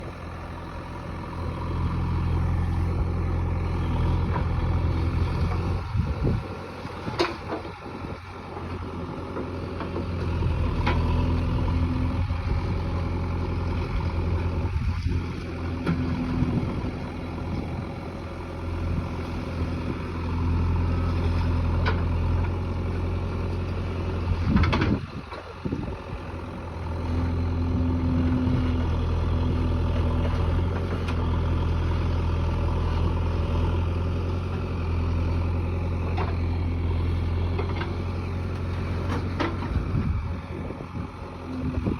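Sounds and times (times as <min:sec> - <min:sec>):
backhoe diesel engine under load: 0:00.0 - 0:41.9.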